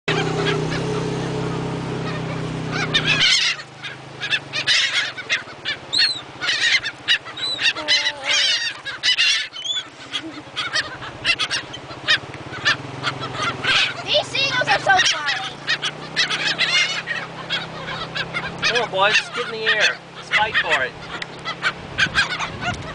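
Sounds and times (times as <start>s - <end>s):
gulls calling: 0.1s - 22.9s.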